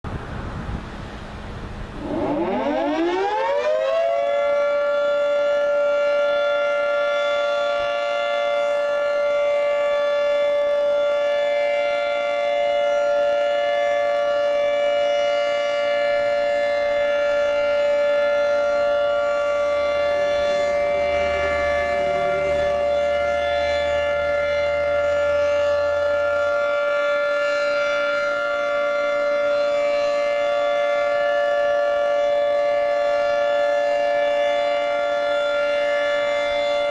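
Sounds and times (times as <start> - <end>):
two-tone warning siren: 0.1 - 36.9.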